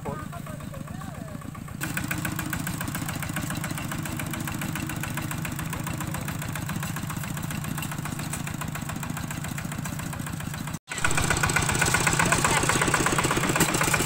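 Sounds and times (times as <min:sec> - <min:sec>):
diesel tractor engine chugging: 0:00.0 - 0:14.0.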